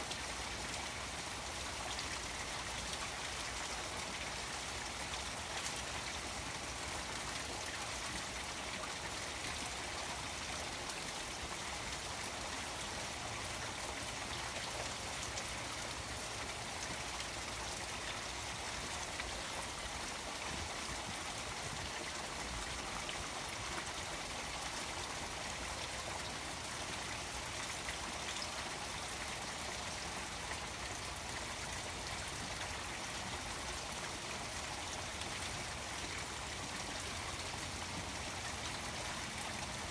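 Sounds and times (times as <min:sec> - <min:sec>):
rain falling on pond: 0:00.0 - 0:39.9
small waterfall splashing: 0:00.0 - 0:39.9.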